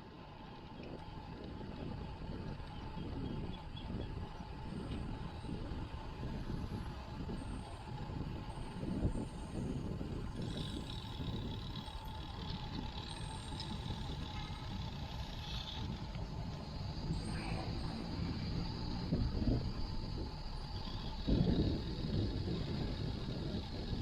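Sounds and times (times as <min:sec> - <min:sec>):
road noise: 0:00.0 - 0:24.0
wind rumbling on microphone: 0:00.0 - 0:24.0.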